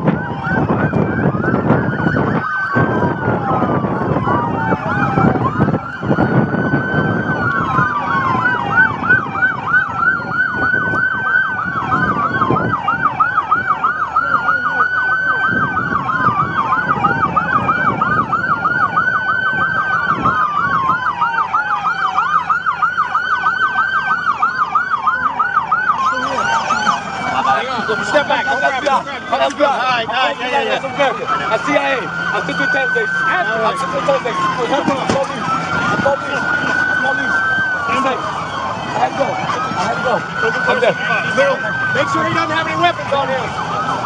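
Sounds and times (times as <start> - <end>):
low engine and road rumble: 0.0 - 44.0
police siren fast yelp: 0.0 - 44.0
police siren slow wail: 0.0 - 44.0.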